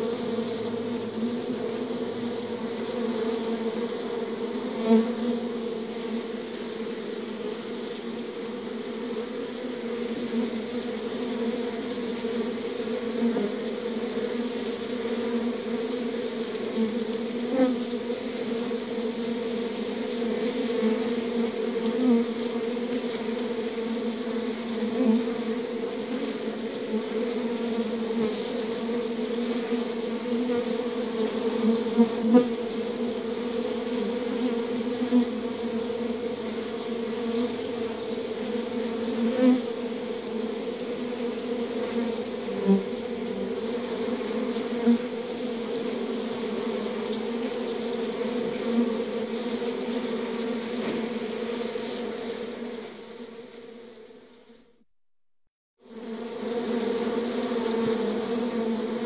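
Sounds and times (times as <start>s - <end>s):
bees buzzing: 0.0s - 54.6s, 55.9s - 59.0s
single bee flying past: 0.0s - 54.8s, 55.8s - 59.0s.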